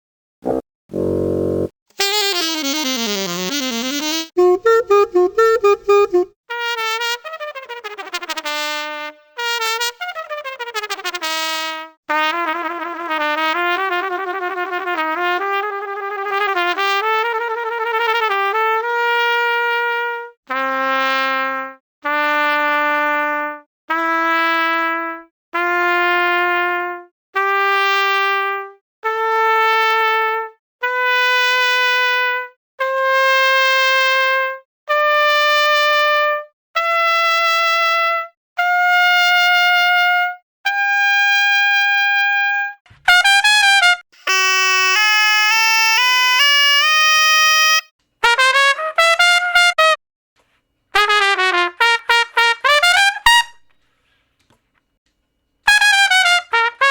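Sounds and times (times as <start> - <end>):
solo trumpet playing: 0.5 - 25.2, 25.8 - 50.0, 51.0 - 53.7, 55.7 - 56.9.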